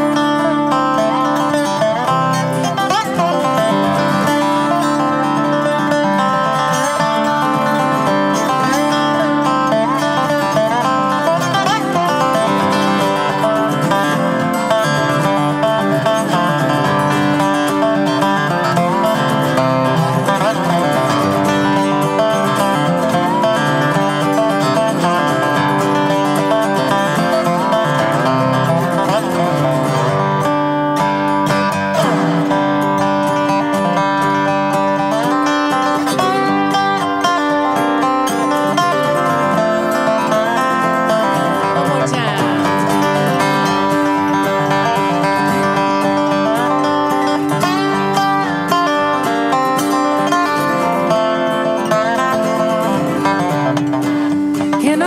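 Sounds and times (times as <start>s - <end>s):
acoustic guitar: 0.0s - 55.0s
dobro with sliding notes: 0.0s - 55.0s.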